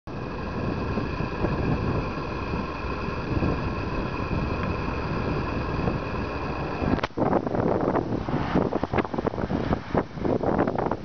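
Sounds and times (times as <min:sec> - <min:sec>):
steady high whine: 0:00.1 - 0:11.0
wind buffeting microphone: 0:00.1 - 0:11.0.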